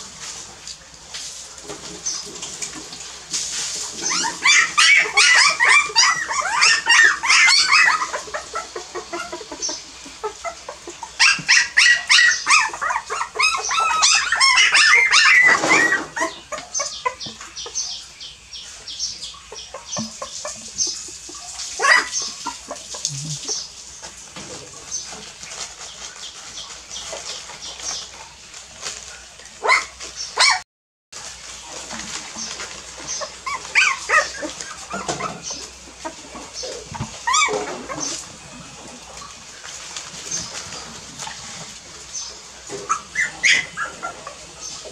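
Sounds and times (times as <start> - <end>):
puppies yipping and squealing: 1.6 - 30.6, 31.4 - 44.9.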